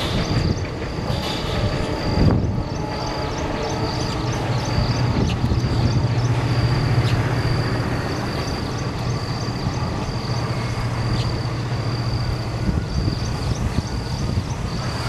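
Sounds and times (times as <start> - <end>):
distant train droning: 0.0 - 15.0.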